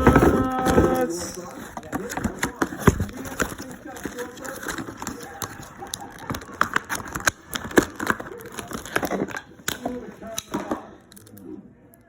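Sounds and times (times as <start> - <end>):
plastic packaging crinkling: 0.0 - 11.4
sharp snaps and rustles: 0.0 - 11.4.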